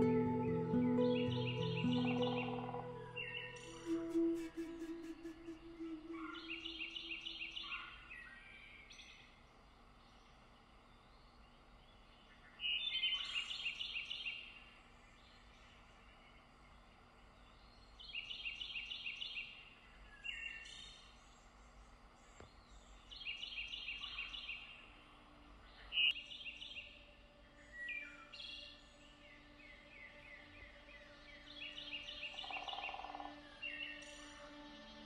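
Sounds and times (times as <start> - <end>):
soft sustained music tones: 0.0 - 35.0
songbird singing: 0.0 - 35.0.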